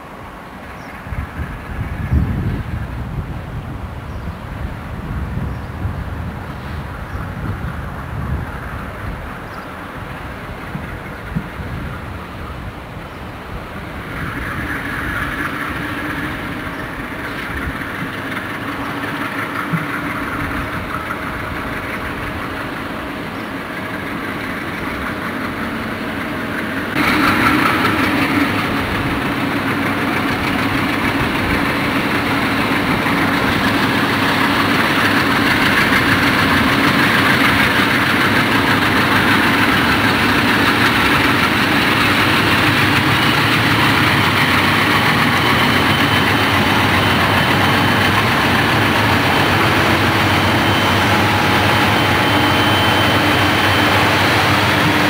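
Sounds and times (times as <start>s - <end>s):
diesel locomotive engines running: 0.0s - 55.0s.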